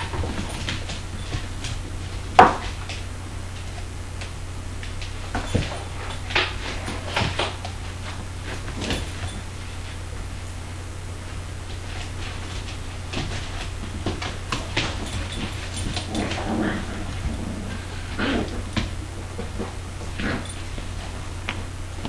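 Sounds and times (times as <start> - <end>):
puppies knocking and tapping on tiles: 0.0 - 9.5, 11.9 - 21.7
steady low hum: 0.0 - 22.0.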